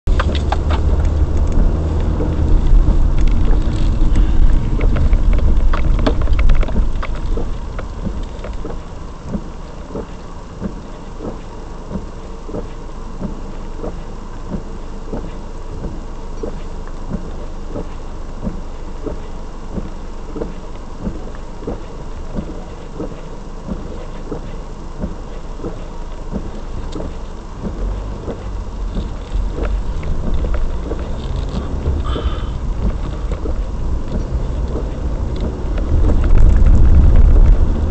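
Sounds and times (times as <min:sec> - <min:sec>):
car road and engine rumble: 0:00.0 - 0:37.9
light irregular ticking: 0:00.1 - 0:37.9.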